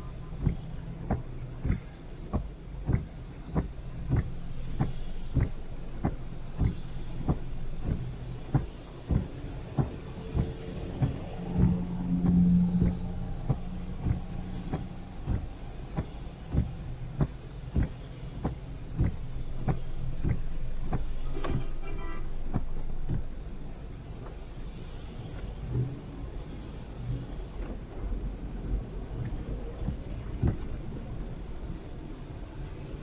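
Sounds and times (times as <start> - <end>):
car engine and road hum: 0.0 - 33.0.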